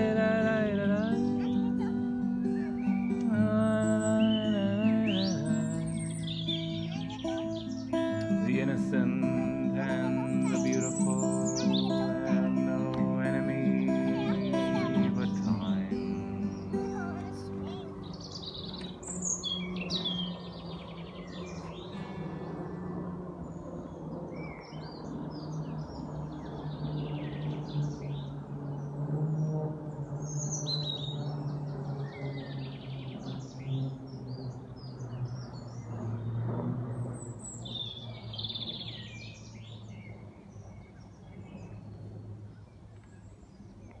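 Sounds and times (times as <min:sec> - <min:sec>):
low steady drone: 0:00.0 - 0:43.6
small birds chirping: 0:00.0 - 0:44.0.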